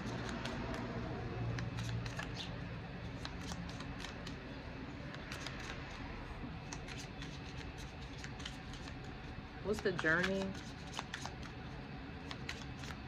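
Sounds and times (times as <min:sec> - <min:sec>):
cards being shuffled: 0:00.0 - 0:13.0
steady low hum: 0:00.0 - 0:13.0.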